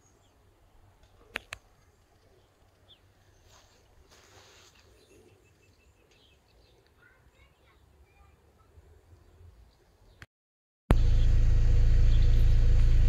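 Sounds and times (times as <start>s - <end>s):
distant bird chirps: 0.0s - 10.3s, 11.0s - 13.0s.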